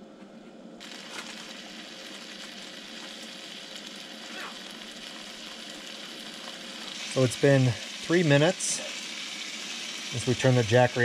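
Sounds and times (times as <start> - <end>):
bacon sizzling in a pan: 0.8 - 11.0.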